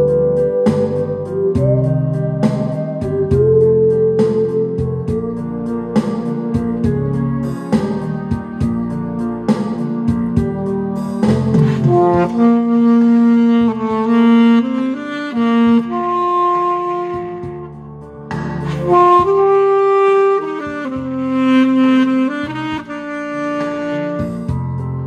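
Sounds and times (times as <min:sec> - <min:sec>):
instrumental backing track: 0:00.0 - 0:25.0
saxophone melody: 0:00.0 - 0:25.0.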